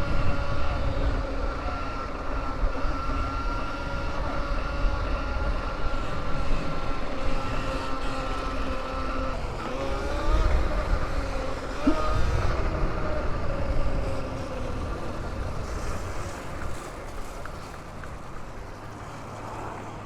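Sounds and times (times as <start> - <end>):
motor vehicle passing by: 0.0 - 20.0.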